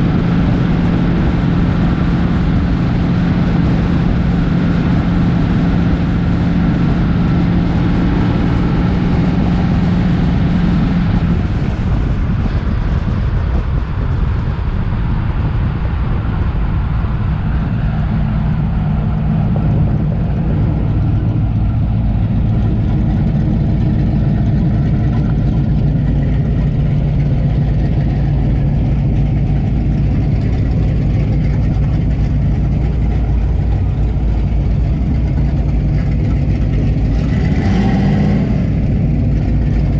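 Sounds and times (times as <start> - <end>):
car engines rumbling: 0.0 - 39.9.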